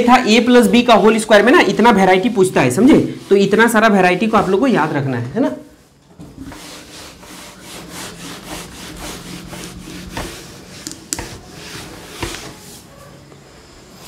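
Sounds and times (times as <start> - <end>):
cloth wiping a whiteboard: 0.0 - 13.2.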